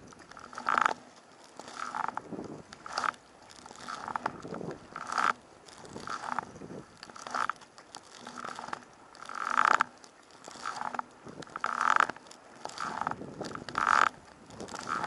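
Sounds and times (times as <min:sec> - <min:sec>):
kayak paddle splashing: 0:00.0 - 0:15.0.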